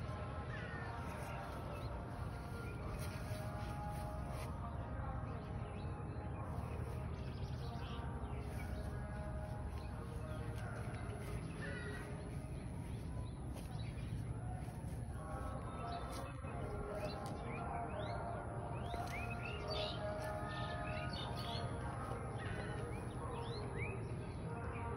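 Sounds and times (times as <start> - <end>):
low outdoor rumble: 0.0 - 24.9
small birds chirping: 0.0 - 24.9.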